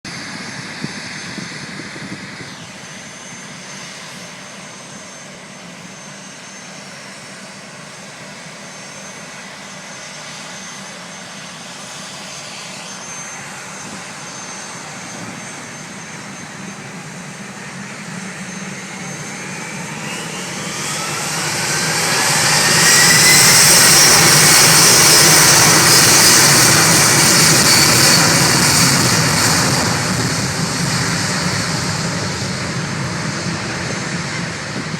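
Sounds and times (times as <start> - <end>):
jet engines roaring at takeoff: 0.1 - 34.9.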